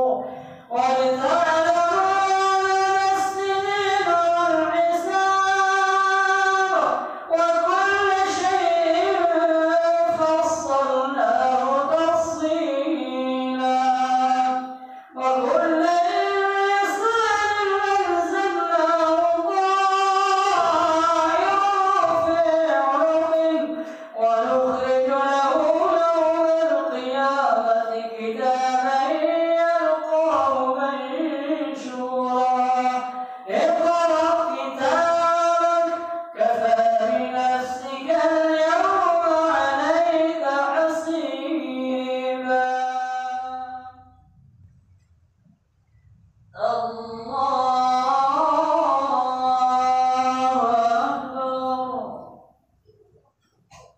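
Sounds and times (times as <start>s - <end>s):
man chanting into a microphone: 0.0s - 44.3s, 46.5s - 52.5s.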